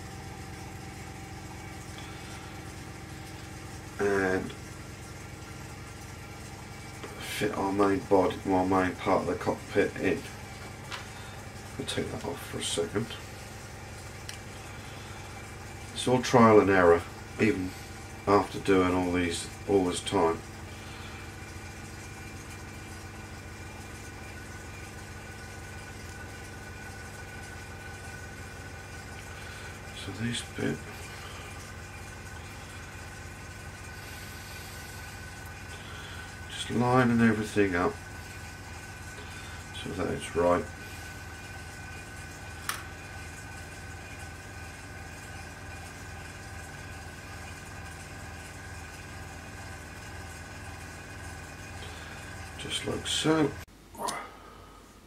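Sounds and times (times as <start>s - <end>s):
airbrush compressor humming: 0.0s - 53.7s.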